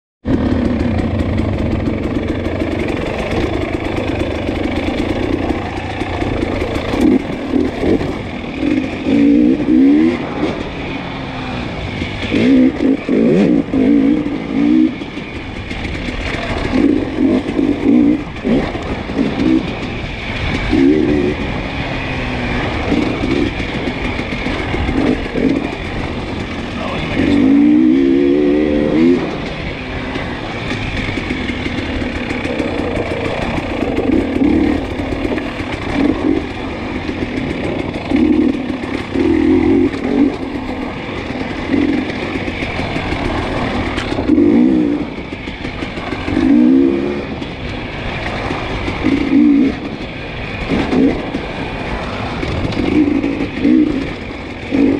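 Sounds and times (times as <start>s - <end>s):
dirt bike engine revving: 0.3s - 54.9s.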